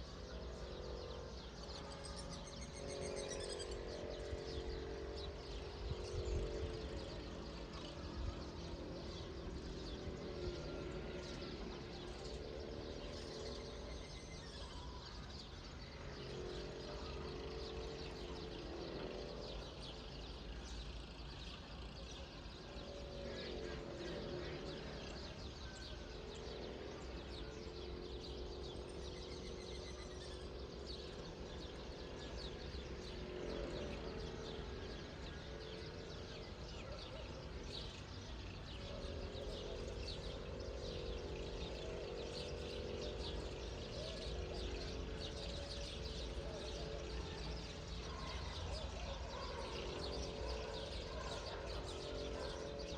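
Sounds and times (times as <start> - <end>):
birds chirping and calling: 0.0 - 52.9.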